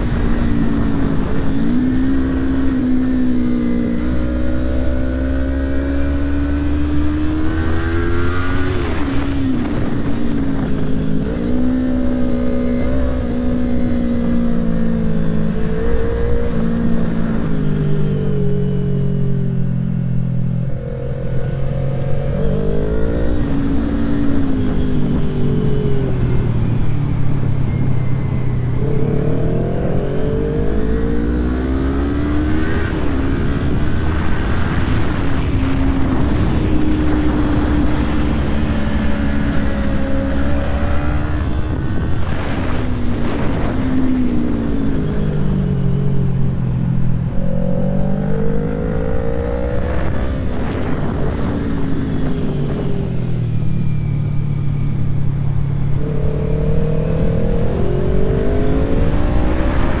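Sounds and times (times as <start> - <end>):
wind rush: 0.0 - 4.4, 5.0 - 18.6, 20.4 - 60.0
motorcycle engine revving: 0.0 - 60.0.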